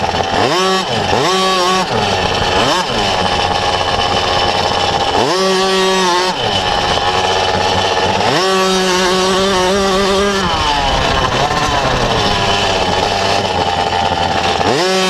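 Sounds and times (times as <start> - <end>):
motorbike engine revving hard: 0.0 - 15.0.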